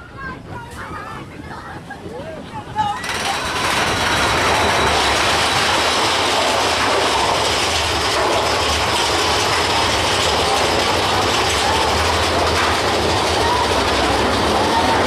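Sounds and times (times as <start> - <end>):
roller coaster clattering on track: 0.0 - 15.0.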